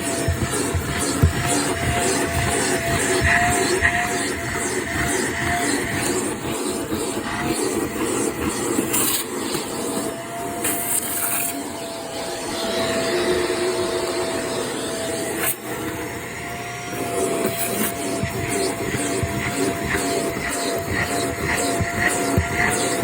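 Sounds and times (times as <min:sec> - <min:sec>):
vacuum cleaner running: 0:00.0 - 0:23.0
vacuum nozzle hissing: 0:00.0 - 0:23.0.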